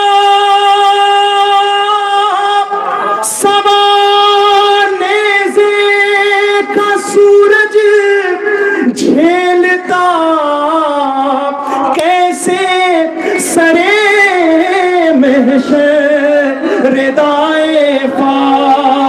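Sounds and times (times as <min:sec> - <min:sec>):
man singing solo: 0:00.0 - 0:19.0.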